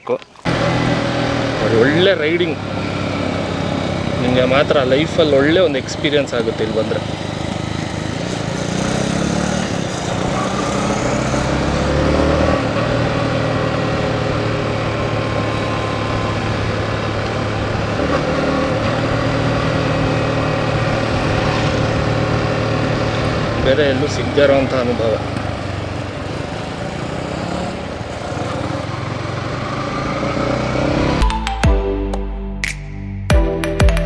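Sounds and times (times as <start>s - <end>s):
motorcycle engine running: 0.0s - 31.3s.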